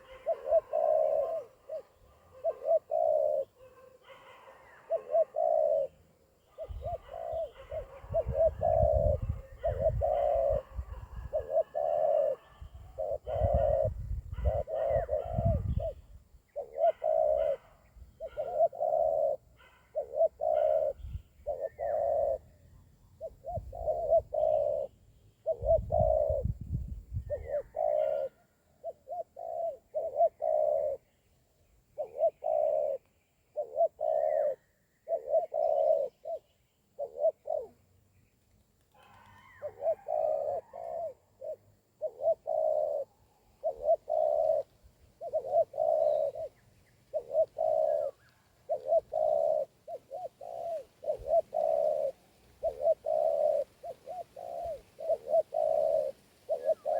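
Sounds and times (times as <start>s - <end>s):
doves cooing: 0.0s - 38.0s, 38.8s - 56.9s
small birds chirping: 0.0s - 56.9s.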